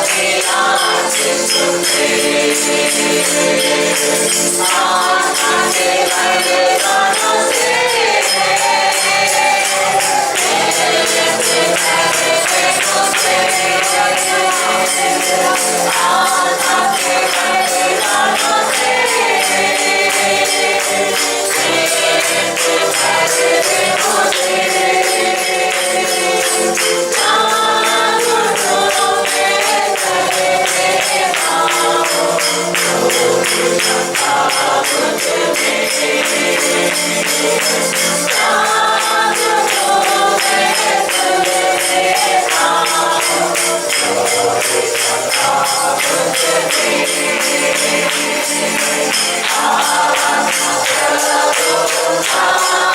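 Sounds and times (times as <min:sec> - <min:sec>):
group singing worship song: 0:00.0 - 0:52.9
tambourine beat: 0:00.0 - 0:52.9.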